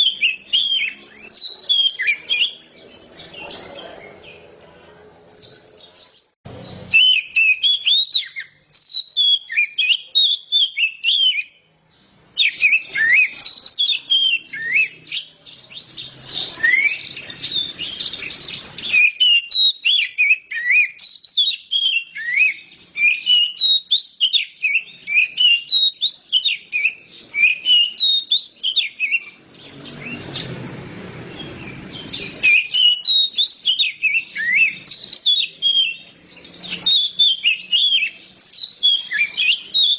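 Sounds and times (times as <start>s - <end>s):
bird song with whistled notes: 0.0s - 4.6s, 5.3s - 39.9s.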